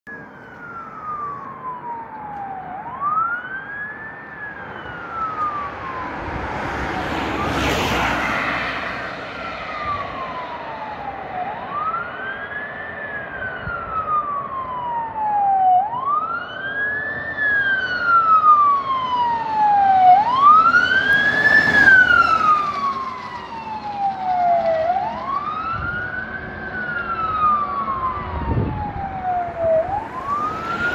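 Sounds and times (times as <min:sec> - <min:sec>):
fire engine siren wailing: 0:00.1 - 0:30.9
road noise whooshes: 0:00.1 - 0:30.9.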